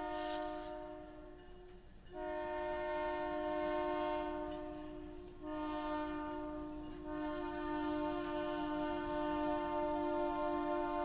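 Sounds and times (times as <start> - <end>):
locomotive air horn blasts: 0.0 - 1.3, 2.1 - 11.0.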